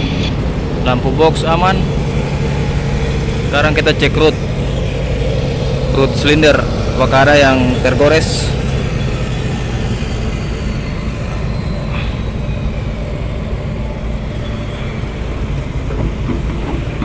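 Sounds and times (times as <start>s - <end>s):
excavator diesel engine idling: 0.0s - 17.0s.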